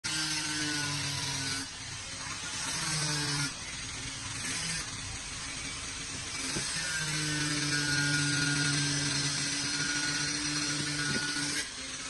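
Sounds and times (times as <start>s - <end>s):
power tool humming: 0.0s - 12.0s.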